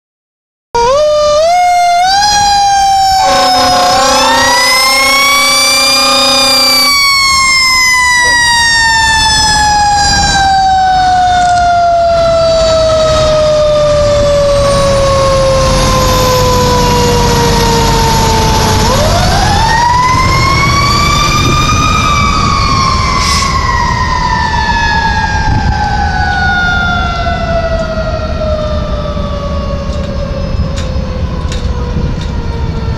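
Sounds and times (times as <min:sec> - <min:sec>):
fire truck siren wailing: 0:00.8 - 0:32.9.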